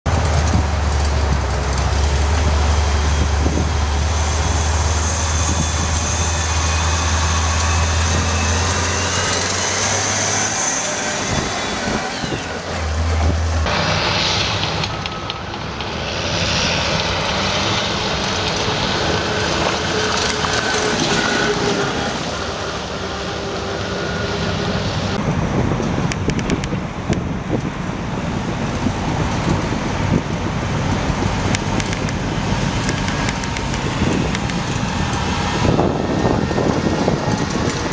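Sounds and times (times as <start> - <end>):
diesel engine droning: 0.1 - 37.9
falling engine whine: 0.1 - 37.9.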